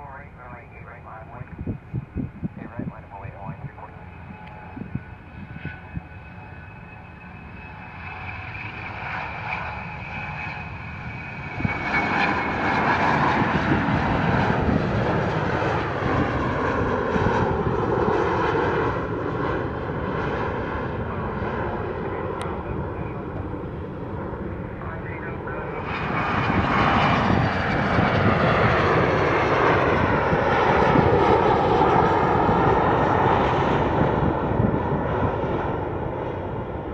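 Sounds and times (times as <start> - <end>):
airplane engines passing: 0.0 - 36.9.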